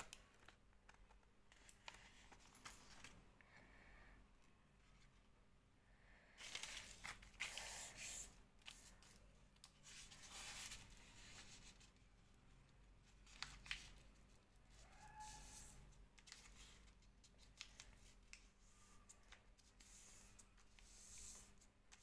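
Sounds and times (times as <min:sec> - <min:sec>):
paper rustling and folding: 0:00.0 - 0:03.3, 0:06.4 - 0:22.0.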